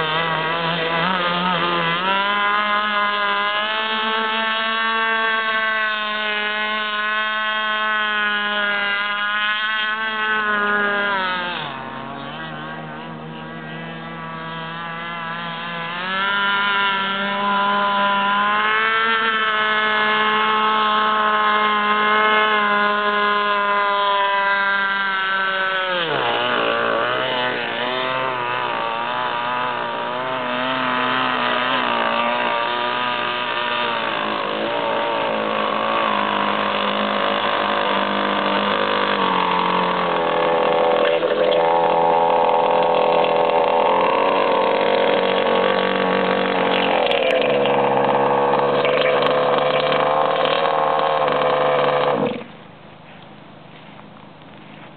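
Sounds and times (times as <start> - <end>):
model boat engine whining: 0.0 - 54.9.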